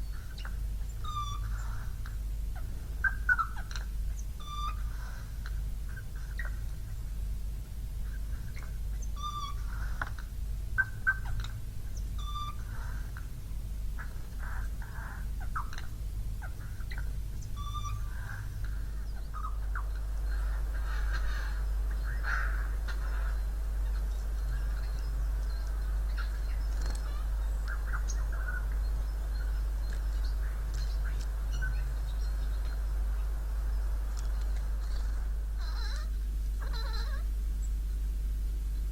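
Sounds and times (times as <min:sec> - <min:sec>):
bird calling pitched notes: 0:00.0 - 0:02.0, 0:02.6 - 0:05.2, 0:08.5 - 0:10.0, 0:10.8 - 0:13.0, 0:14.0 - 0:38.1
steady low rumble: 0:00.0 - 0:38.9.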